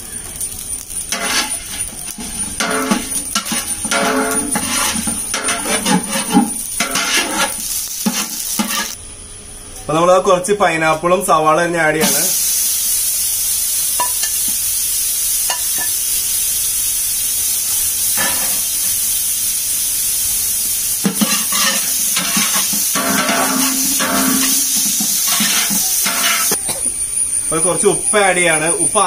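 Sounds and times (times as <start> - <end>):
food sizzling in a pot: 0.0 - 9.0, 12.0 - 29.0.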